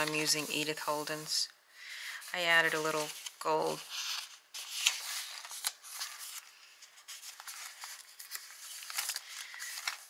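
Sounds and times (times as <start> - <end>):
paper pages rustling: 0.0 - 1.2, 2.2 - 10.0.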